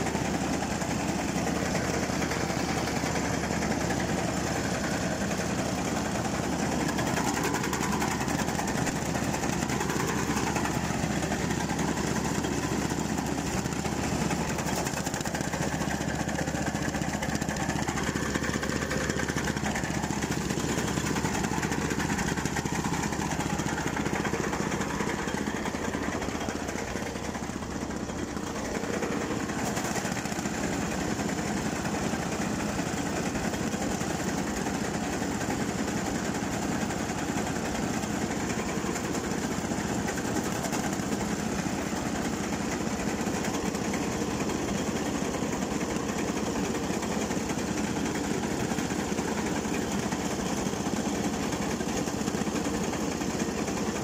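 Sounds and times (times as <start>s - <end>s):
branch chipper engine running: 0.0s - 54.0s.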